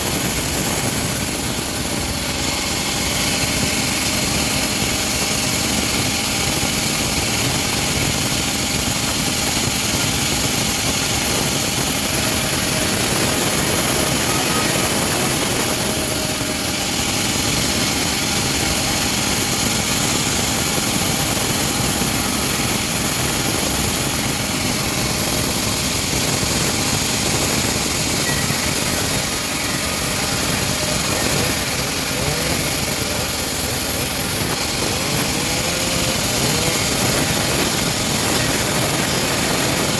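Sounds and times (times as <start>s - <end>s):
engine-driven bandsaw mill running: 0.0s - 39.9s.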